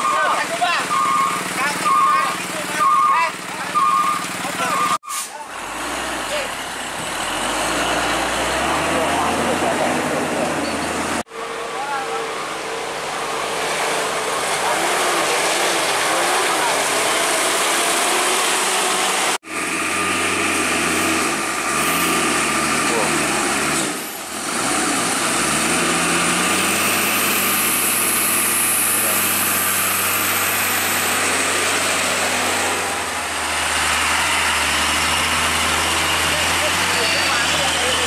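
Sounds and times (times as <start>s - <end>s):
diesel trucks running slowly: 0.0s - 38.0s.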